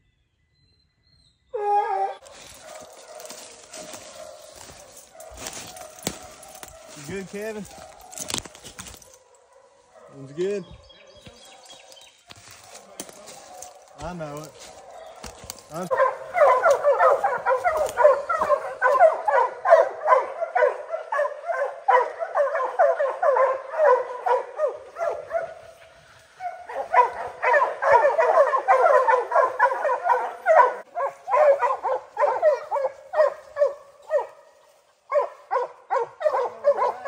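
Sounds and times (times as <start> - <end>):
hounds barking: 1.6 - 37.0.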